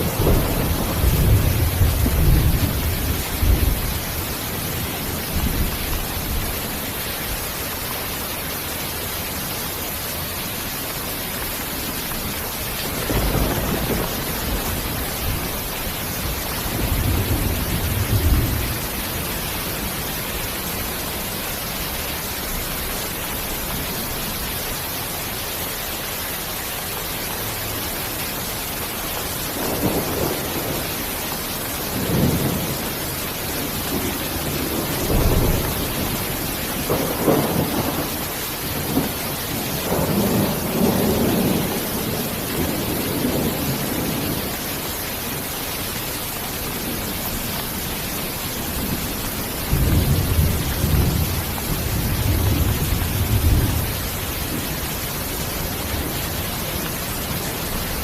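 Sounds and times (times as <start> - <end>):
low thunder rumbles: 0.0 - 8.0, 12.1 - 24.5, 29.1 - 44.7, 46.5 - 58.0
heavy rain hissing: 0.0 - 58.0.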